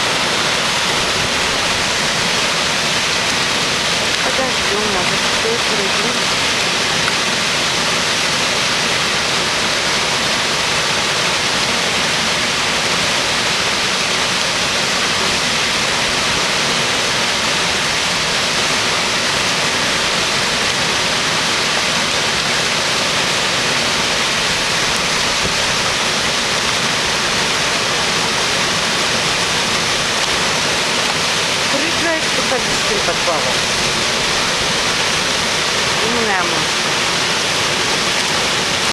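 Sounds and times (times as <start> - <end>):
river water rushing: 0.0 - 38.9
waterfall: 0.0 - 38.9.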